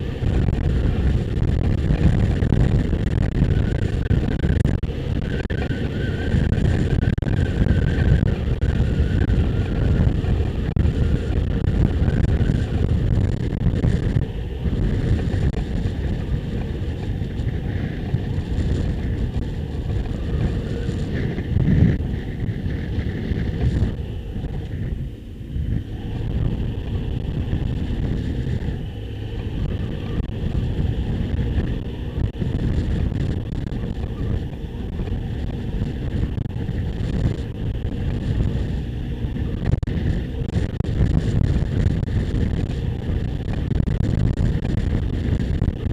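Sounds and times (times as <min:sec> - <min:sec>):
motorcycle engine running: 0:00.0 - 0:45.9
wind rushing over microphone: 0:00.0 - 0:45.9.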